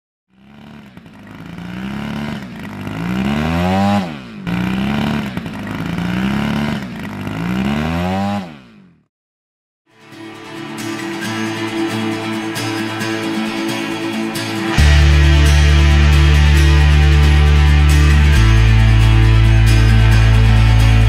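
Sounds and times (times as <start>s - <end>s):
engine revving: 0.3s - 9.1s, 10.4s - 21.0s.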